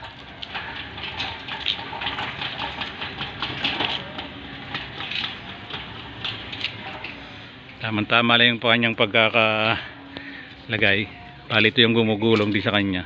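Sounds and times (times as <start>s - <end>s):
folding gate rolling rumble: 0.0s - 13.0s.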